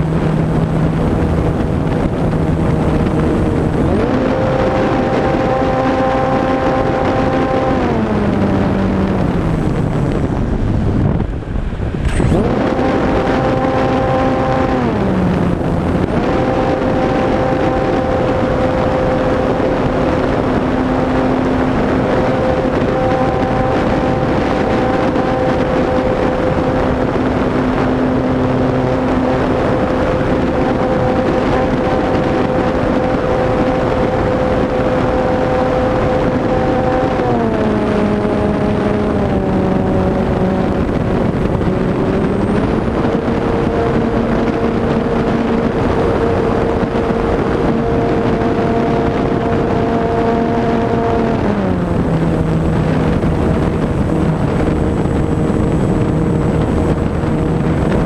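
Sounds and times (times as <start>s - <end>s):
electric motor and propeller whining: 0.0s - 58.0s
wind rushing on microphone: 0.0s - 58.0s.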